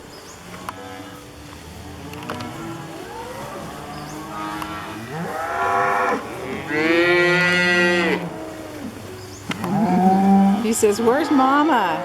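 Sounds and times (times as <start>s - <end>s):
cows and calves bawling: 0.4s - 12.0s.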